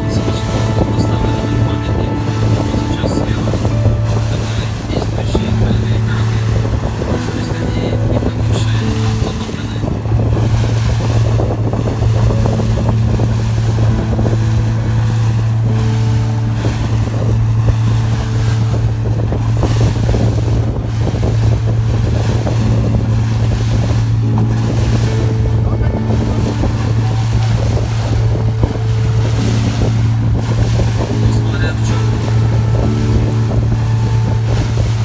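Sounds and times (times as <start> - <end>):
boat engine droning: 0.0 - 35.0
wind buffeting microphone: 0.0 - 35.0.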